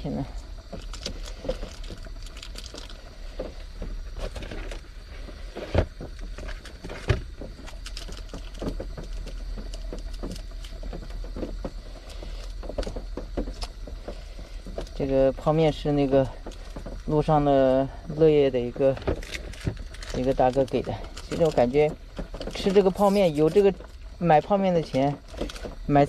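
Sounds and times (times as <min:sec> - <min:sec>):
rain pattering on camper shell: 0:00.0 - 0:26.0.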